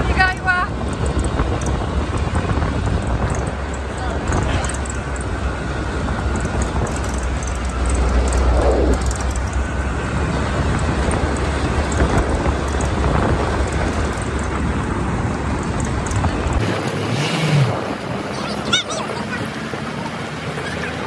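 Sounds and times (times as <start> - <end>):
road and engine noise: 0.0 - 21.0
wind buffeting microphone: 0.0 - 21.0.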